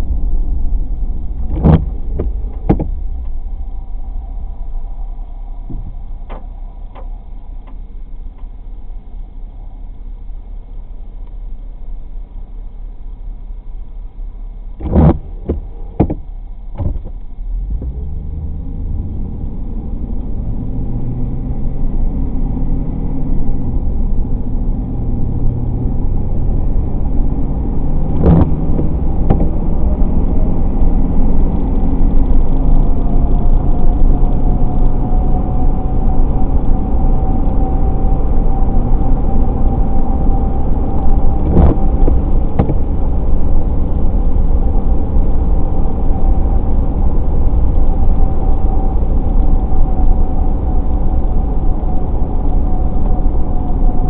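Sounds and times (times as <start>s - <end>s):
car engine accelerating: 0.0s - 12.2s, 14.6s - 54.0s
road noise: 0.0s - 54.0s.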